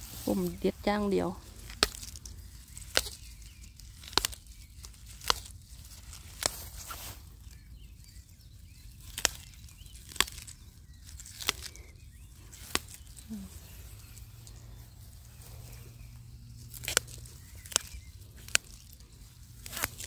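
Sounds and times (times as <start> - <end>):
grass and leaves rustling: 0.0 - 20.0
flower stems snapping: 1.5 - 7.6, 8.8 - 14.6, 15.6 - 20.0.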